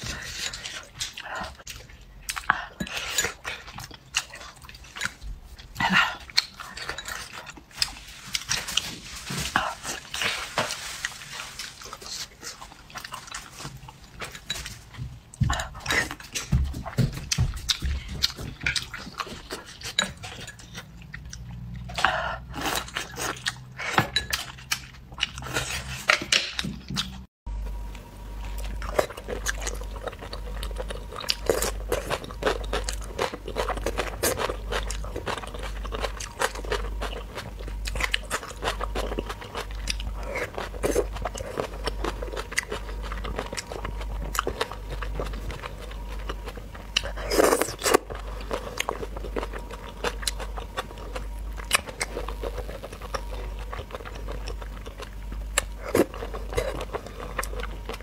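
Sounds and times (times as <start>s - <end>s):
chewing and crunching food: 0.0s - 58.0s.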